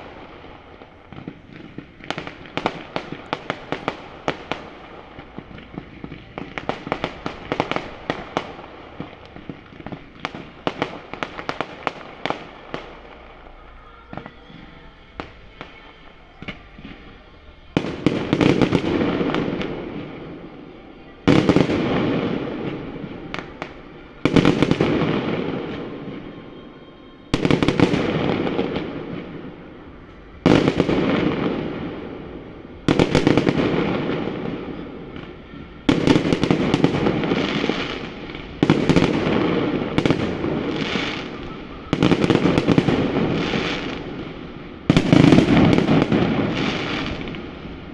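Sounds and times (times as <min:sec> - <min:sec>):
rapid crackle of small fireworks: 0:00.0 - 0:47.9.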